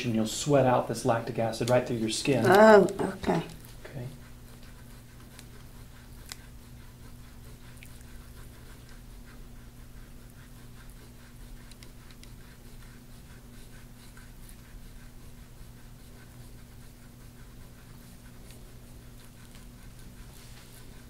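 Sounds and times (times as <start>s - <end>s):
faint steady hum: 0.0s - 21.0s
tool scraping over skin: 0.0s - 21.0s.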